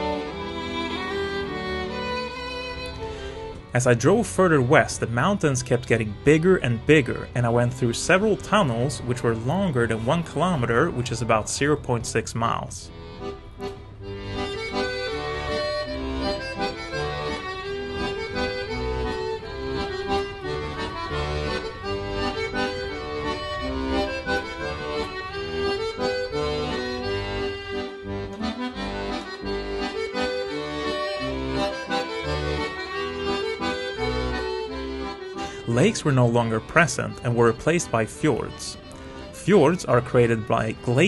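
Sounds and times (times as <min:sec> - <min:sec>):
instrumental music with low beat: 0:00.0 - 0:12.0, 0:12.9 - 0:41.0.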